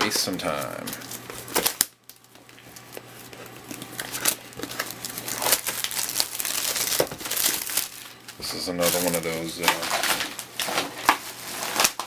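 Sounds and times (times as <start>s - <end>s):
plastic shrink wrap tearing: 0.1s - 12.0s.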